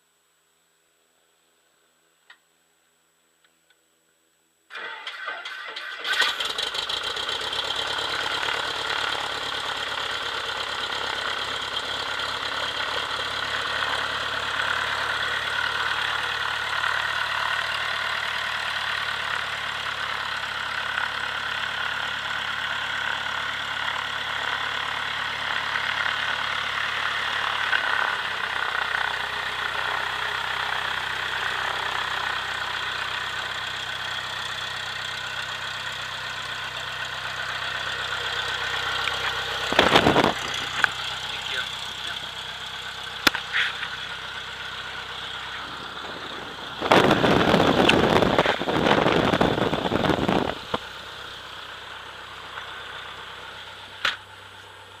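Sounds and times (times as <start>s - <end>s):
aircraft engine running: 5.2s - 55.0s.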